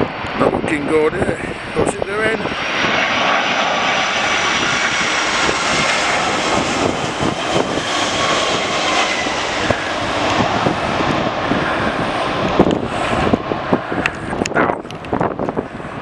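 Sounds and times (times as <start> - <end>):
jet engines passing overhead: 0.0 - 16.0
wind buffeting microphone: 0.0 - 16.0.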